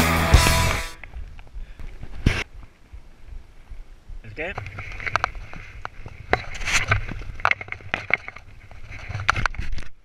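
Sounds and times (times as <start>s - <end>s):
steady rustle: 1.0s - 10.0s.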